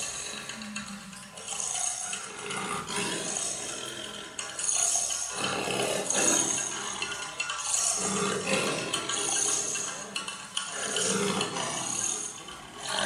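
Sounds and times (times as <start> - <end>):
jangling metal percussion: 0.0 - 13.0.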